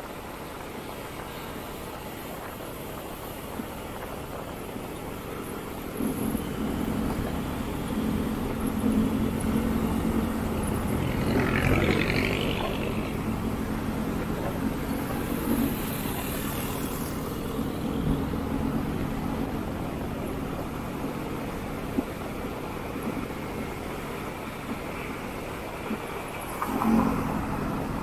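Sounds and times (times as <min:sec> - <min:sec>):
road and wind noise: 0:00.0 - 0:28.0
surrounding traffic: 0:00.0 - 0:28.0.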